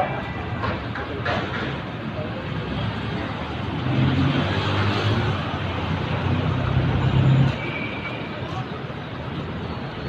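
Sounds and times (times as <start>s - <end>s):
rush of tyres and traffic: 0.0s - 10.0s.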